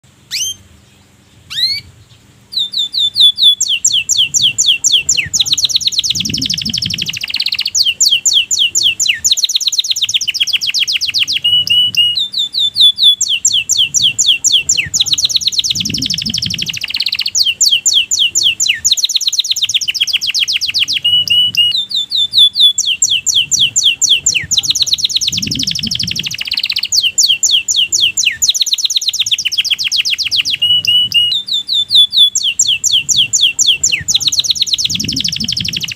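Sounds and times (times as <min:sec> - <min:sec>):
canary singing: 0:00.3 - 0:35.9.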